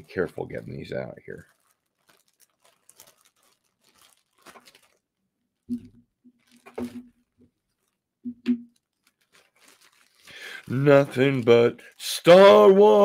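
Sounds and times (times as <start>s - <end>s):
plastic packaging crinkling: 0.1s - 13.0s.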